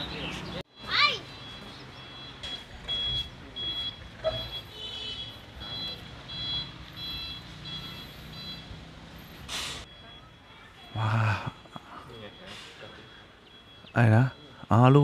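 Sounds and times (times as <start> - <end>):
reversing alarm beeping: 0.7 - 15.0.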